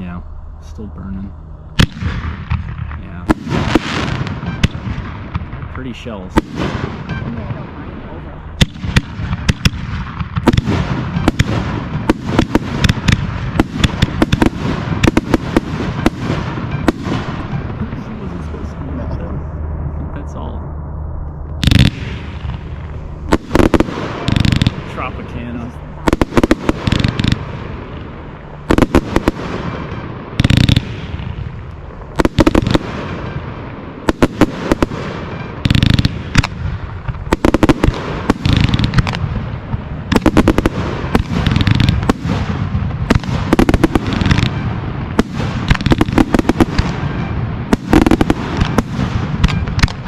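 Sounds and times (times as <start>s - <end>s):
fireworks sharp reports: 0.0s - 50.0s
heavy firework booms: 1.7s - 50.0s.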